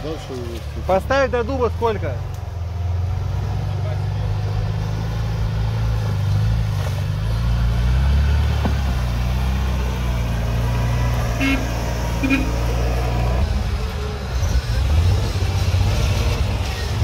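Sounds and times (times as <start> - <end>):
off-road vehicle engine: 0.0 - 17.0.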